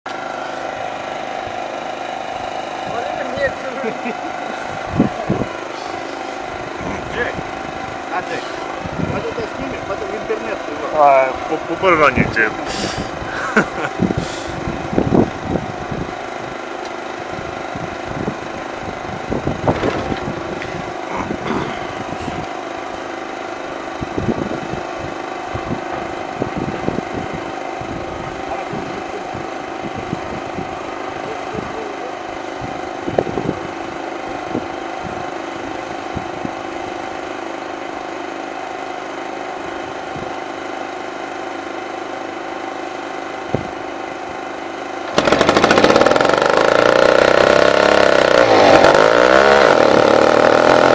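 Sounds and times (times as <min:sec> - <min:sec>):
engine idling: 0:00.1 - 0:50.9.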